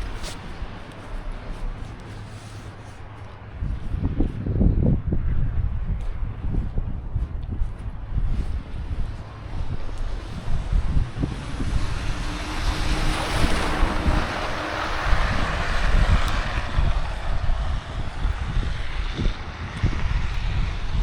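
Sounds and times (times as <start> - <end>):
vehicle passing on snowy street: 0.0 - 21.0
wind buffeting microphone: 0.0 - 21.0.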